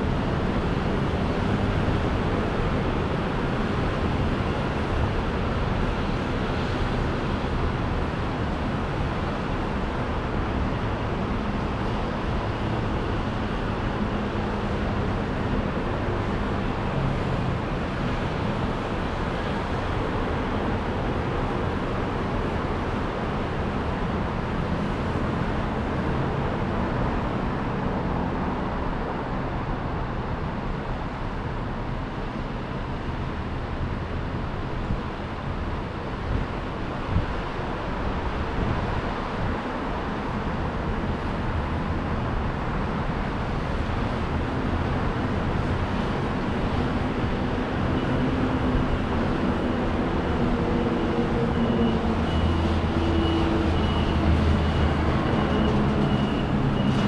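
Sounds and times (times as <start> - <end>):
heavy engine hum: 0.0 - 57.0
traffic roar: 0.0 - 57.0.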